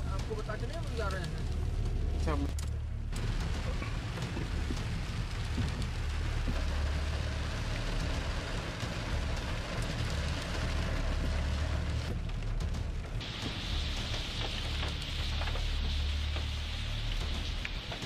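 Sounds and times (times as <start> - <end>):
car road rumble: 0.0 - 18.0
rain on a windshield: 0.0 - 18.0.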